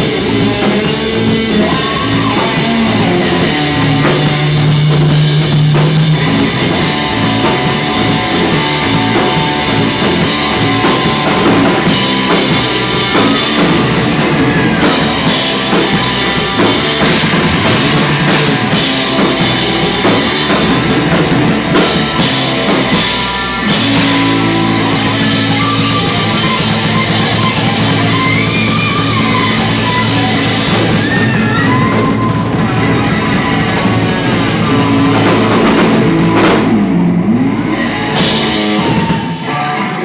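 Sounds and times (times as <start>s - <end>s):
lead guitar bending lines: 0.0s - 40.0s
rock band playing: 0.0s - 40.0s.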